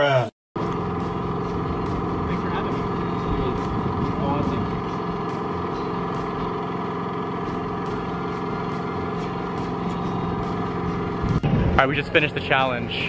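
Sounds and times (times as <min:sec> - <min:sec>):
car engine idling: 0:00.6 - 0:13.0.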